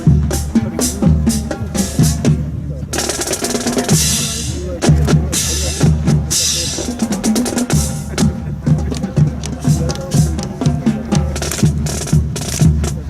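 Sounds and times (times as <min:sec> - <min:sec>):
drum-heavy music: 0:00.0 - 0:13.0.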